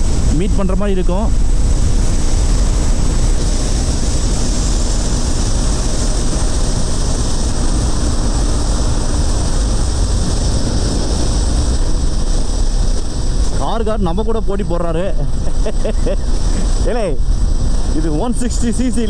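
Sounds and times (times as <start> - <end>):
motorcycle engine drone: 0.0 - 19.0
wind rush on microphone: 0.0 - 19.0.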